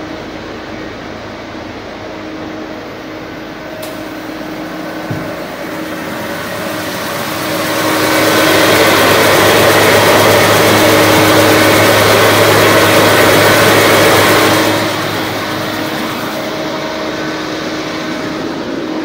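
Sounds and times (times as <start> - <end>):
low hum: 0.0 - 19.0
lathe whirring: 0.2 - 19.0.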